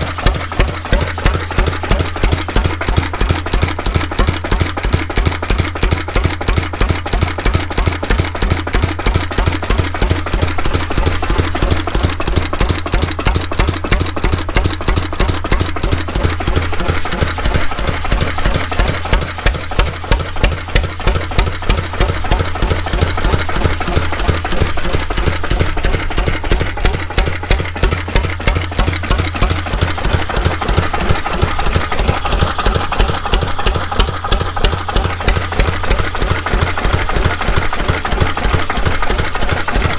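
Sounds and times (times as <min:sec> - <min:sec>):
diesel stationary engine running: 0:00.0 - 0:39.9.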